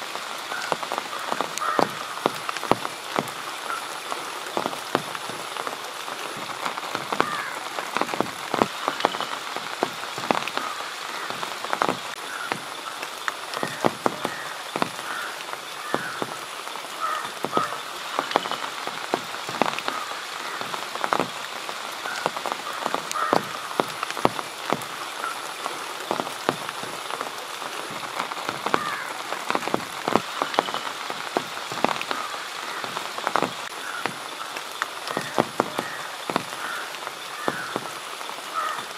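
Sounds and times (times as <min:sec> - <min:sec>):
rain falling: 0:00.0 - 0:38.9
raindrops striking close by: 0:00.0 - 0:38.9.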